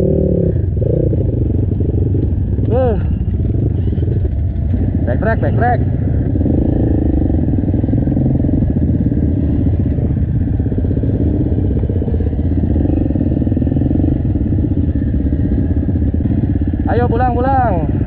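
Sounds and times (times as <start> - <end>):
dirt bike engines running: 0.0 - 18.0.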